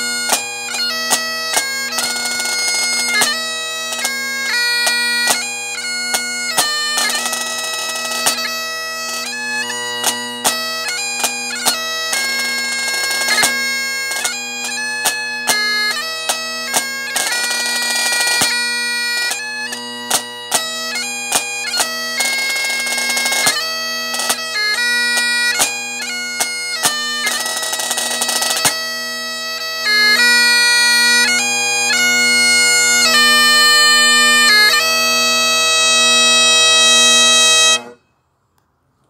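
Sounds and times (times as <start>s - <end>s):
bagpipe playing a tune: 0.0s - 38.0s.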